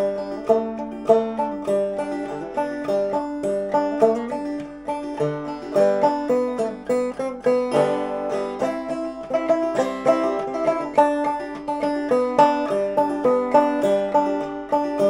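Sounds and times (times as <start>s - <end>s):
banjo picking melody: 0.0s - 15.0s.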